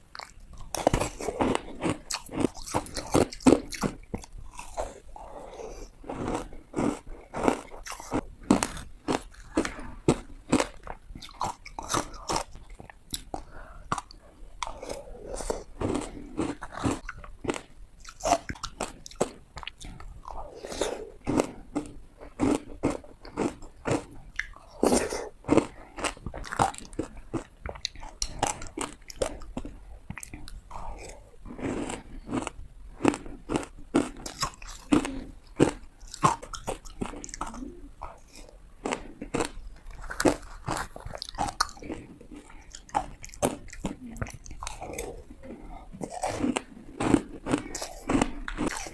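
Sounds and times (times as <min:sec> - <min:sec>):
teeth crunching ice: 0:00.2 - 0:05.0, 0:06.2 - 0:48.9.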